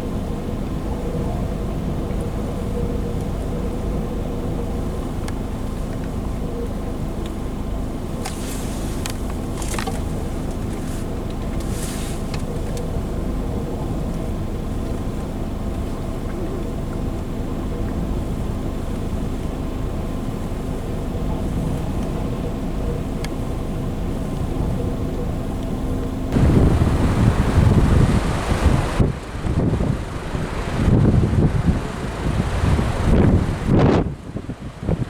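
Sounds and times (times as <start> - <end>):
car engine low drone: 0.0 - 35.0.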